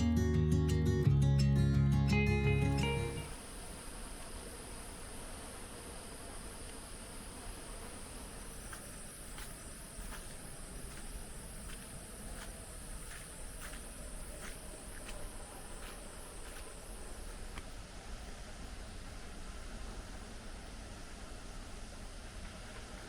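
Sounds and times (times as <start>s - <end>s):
insects buzzing: 2.8s - 23.0s.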